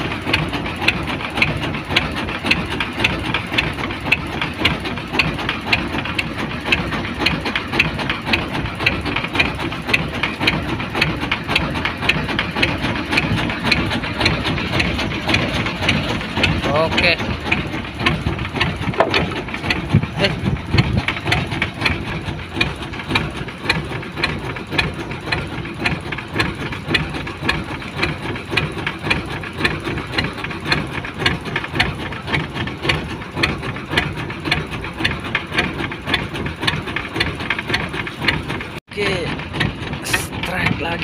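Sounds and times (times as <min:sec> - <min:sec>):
boat engine idling with knocking: 0:00.0 - 0:41.0.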